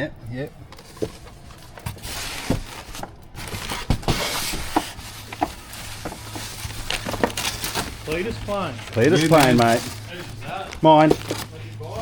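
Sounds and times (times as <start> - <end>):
packaging rustling and crinkling: 0.7 - 12.0.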